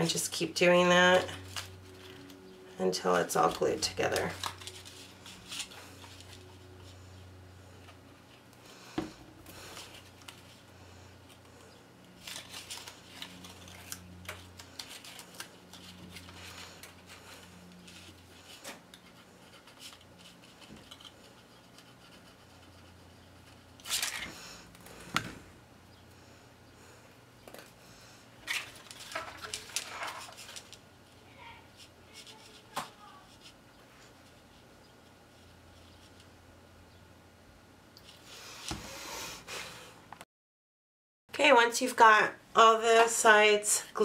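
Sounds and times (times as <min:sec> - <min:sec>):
faint steady hum: 0:00.0 - 0:40.2.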